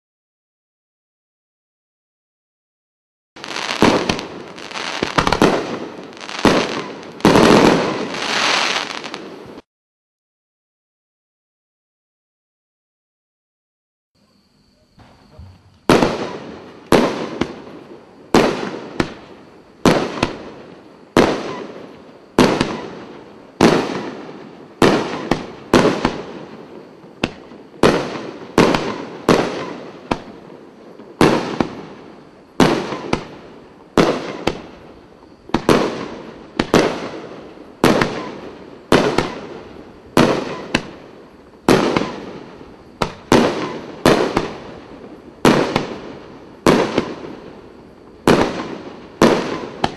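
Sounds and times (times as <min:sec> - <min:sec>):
fireworks bangs: 0:03.4 - 0:09.6, 0:15.0 - 0:49.9.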